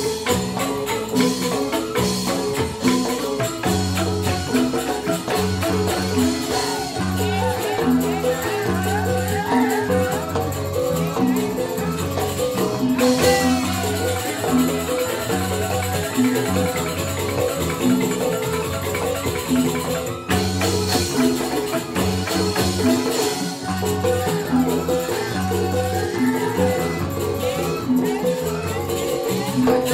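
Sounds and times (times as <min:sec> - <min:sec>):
bamboo xylophone ensemble music: 0:00.0 - 0:29.9.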